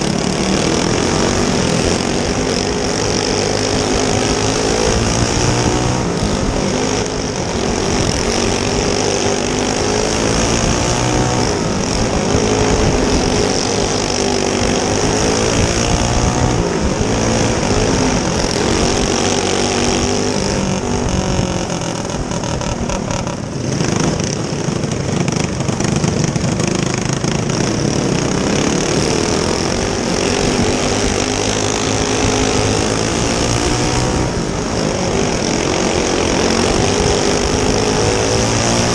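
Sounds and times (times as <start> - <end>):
go-kart engine racing: 0.0 - 38.9.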